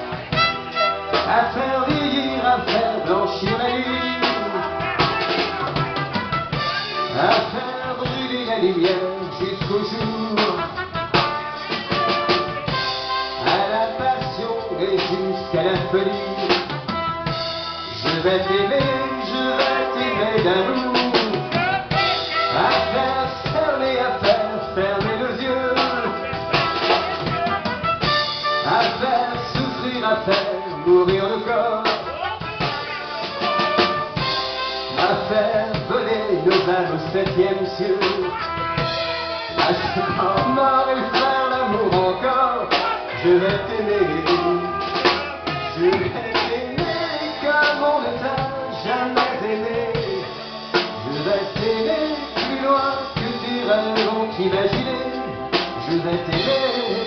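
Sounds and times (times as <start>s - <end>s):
drum kit beat: 0.0s - 57.0s
live band music: 0.0s - 57.0s.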